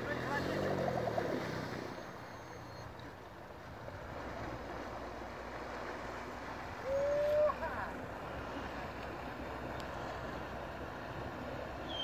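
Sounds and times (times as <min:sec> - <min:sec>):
outboard motor running: 0:00.0 - 0:12.0
wind: 0:00.0 - 0:12.0.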